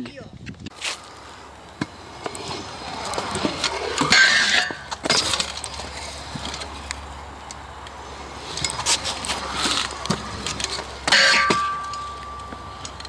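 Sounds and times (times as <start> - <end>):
scooter wheels rolling on concrete: 0.0 - 13.0
scooter clacking: 0.8 - 13.0.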